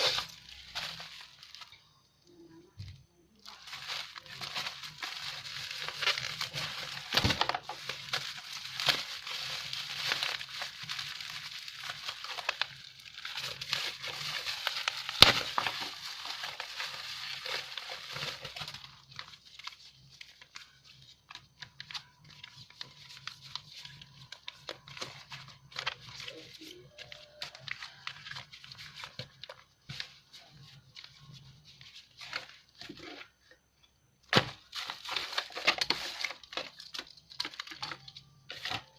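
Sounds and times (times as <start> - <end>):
packaging crinkling and tearing: 0.0 - 1.8, 3.4 - 33.4, 34.2 - 38.9.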